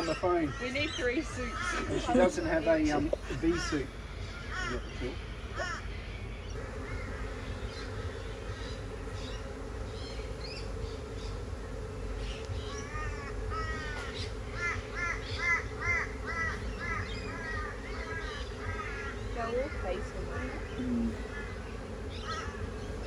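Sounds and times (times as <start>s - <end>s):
bees humming: 0.0s - 23.0s
bird harsh cawing: 0.0s - 23.0s.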